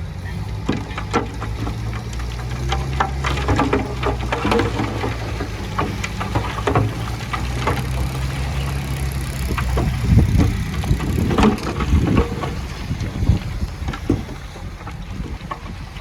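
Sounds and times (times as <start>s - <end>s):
heavy machinery diesel engine: 0.0s - 16.0s
metal and rock clanking: 0.0s - 16.0s.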